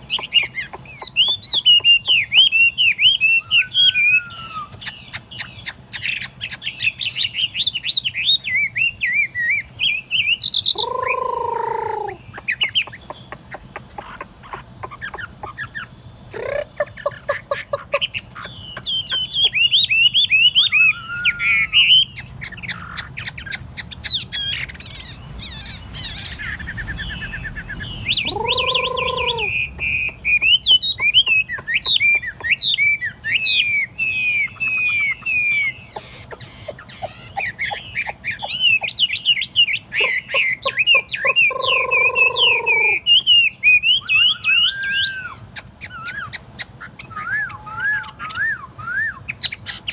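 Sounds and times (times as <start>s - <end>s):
bird singing whistled song: 0.0s - 12.9s, 18.4s - 49.9s.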